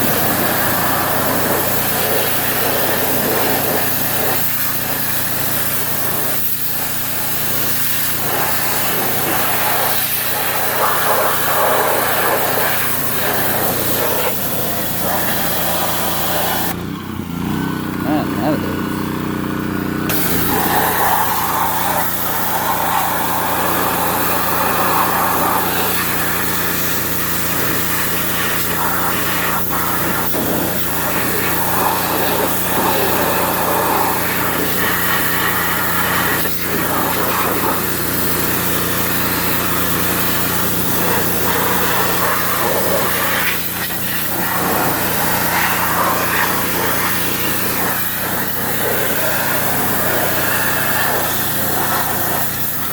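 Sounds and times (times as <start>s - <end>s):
high-pressure spray hissing: 0.0s - 16.7s, 20.1s - 52.9s
small engine running: 0.0s - 52.9s.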